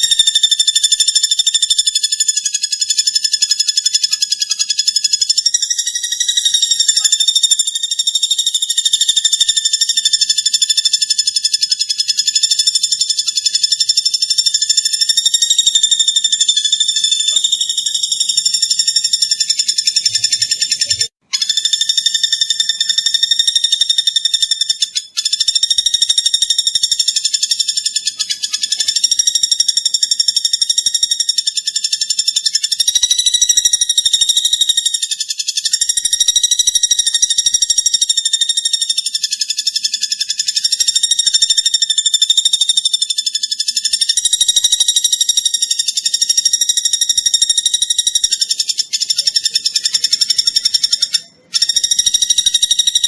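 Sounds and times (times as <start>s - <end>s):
woodpecker trilling: 0.0s - 53.0s.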